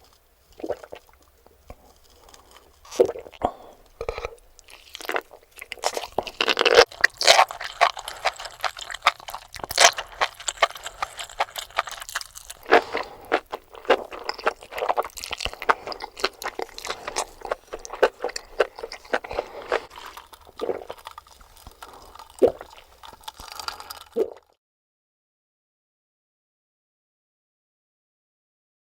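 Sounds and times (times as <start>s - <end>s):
crunchy chewing: 0.0s - 24.6s
wet mouth sounds: 0.0s - 24.6s.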